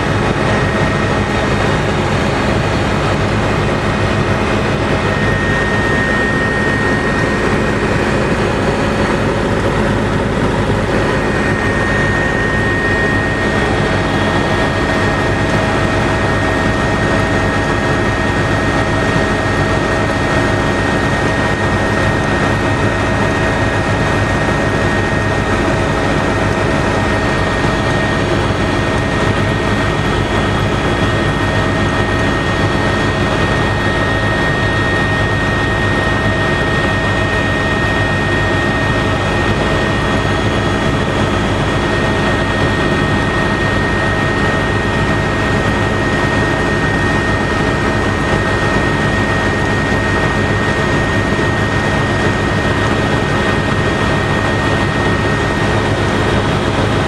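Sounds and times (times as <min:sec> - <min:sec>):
helicopter engine and rotor drone: 0:00.0 - 0:57.0
high-pitched whine: 0:00.0 - 0:57.0.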